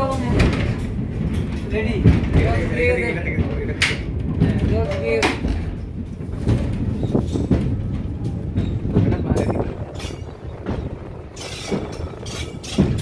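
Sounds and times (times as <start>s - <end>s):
train carriage rumbling: 0.0s - 13.0s.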